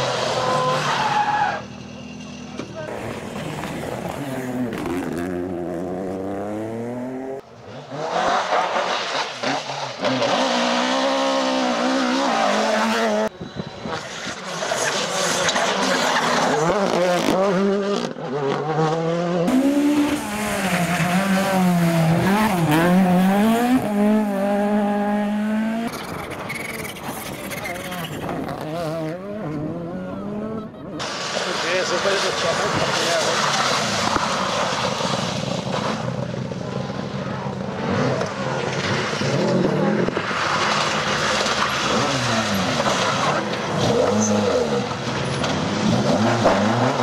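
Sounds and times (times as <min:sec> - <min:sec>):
rally car engines revving: 0:00.0 - 0:47.0.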